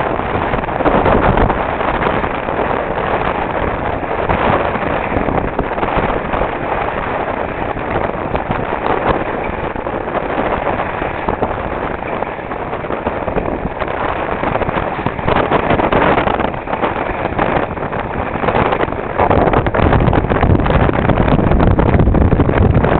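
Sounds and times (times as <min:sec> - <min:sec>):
water rushing past boat: 0:00.0 - 0:22.9
wind buffeting microphone: 0:00.0 - 0:22.9.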